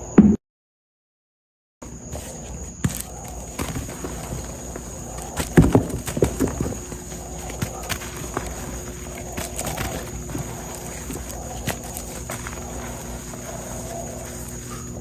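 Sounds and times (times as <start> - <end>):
chalk blocks being crushed: 2.1 - 15.0
soft thuds: 2.1 - 15.0.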